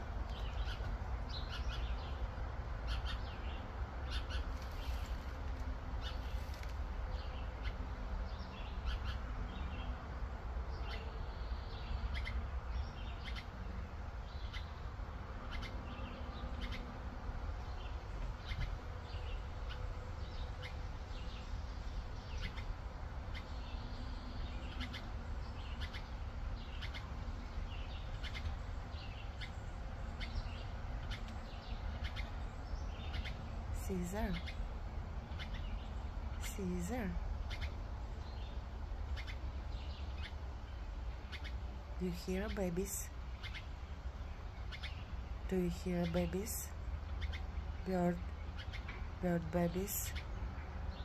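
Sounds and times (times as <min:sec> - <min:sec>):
small birds chirping: 0:00.0 - 0:51.0
steady low rumble: 0:00.0 - 0:51.0.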